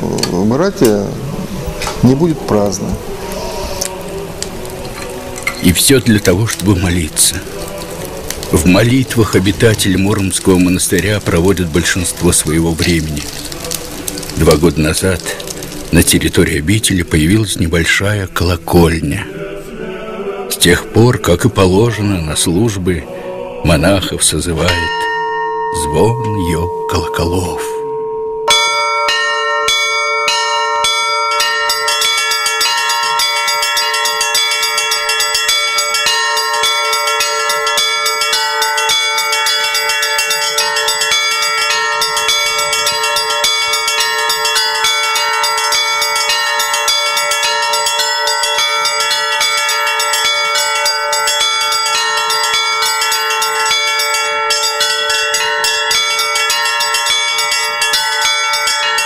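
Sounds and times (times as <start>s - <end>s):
church bells pealing: 4.6s - 19.0s, 23.6s - 59.0s.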